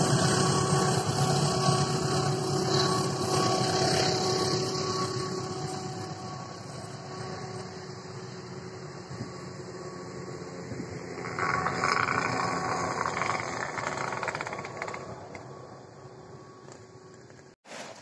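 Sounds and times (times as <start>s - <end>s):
passenger train rumbling: 0.0s - 17.3s.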